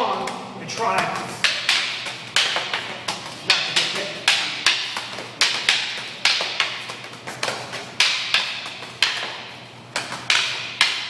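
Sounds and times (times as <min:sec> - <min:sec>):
sticks clacking together: 0:01.4 - 0:11.0.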